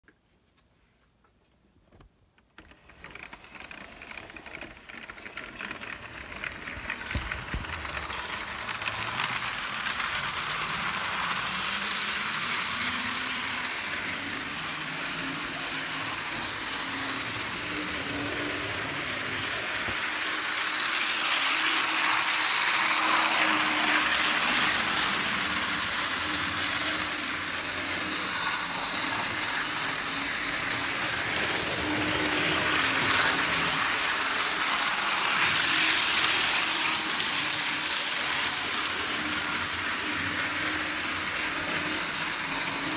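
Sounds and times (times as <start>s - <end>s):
small electric motor whine: 2.6s - 42.9s.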